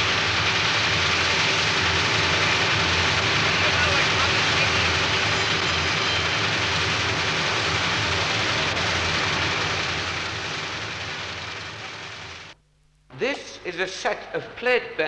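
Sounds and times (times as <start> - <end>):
workshop machinery running: 0.0 - 12.6
low hum: 0.0 - 12.7.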